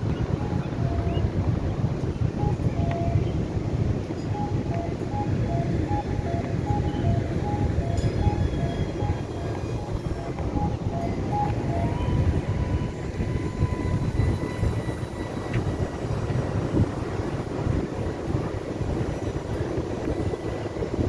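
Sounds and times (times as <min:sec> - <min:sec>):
low rumbling noise: 0:00.0 - 0:21.0.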